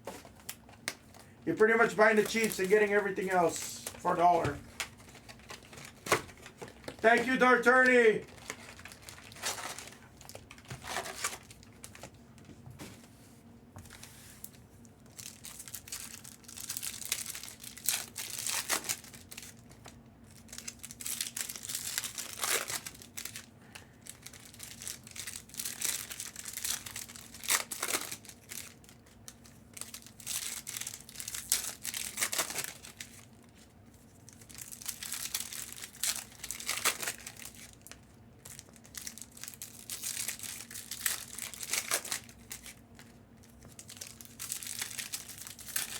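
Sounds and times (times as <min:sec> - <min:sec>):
plastic packaging crinkling: 0:00.0 - 0:12.2, 0:14.4 - 0:45.9.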